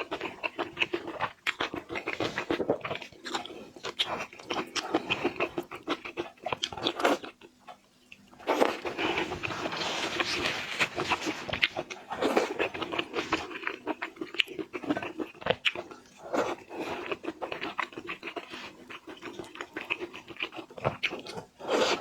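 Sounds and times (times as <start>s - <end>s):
chewing and crunching food: 0.0s - 22.0s.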